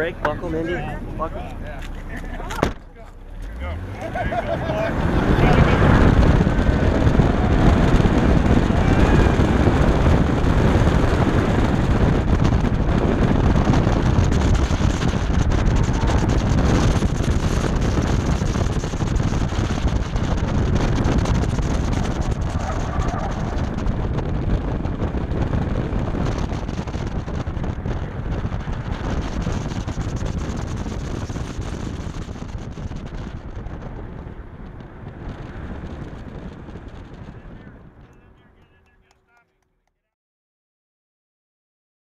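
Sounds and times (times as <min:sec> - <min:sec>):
wind buffeting on microphone: 0:00.0 - 0:39.1
car engine running hard: 0:00.0 - 0:39.2.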